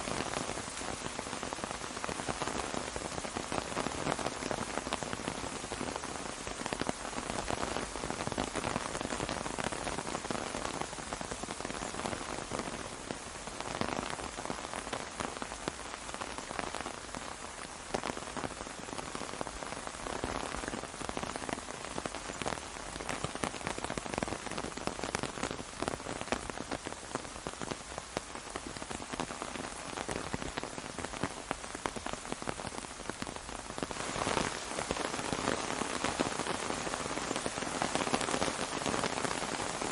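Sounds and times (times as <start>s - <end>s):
rain falling on an umbrella: 0.0s - 39.9s.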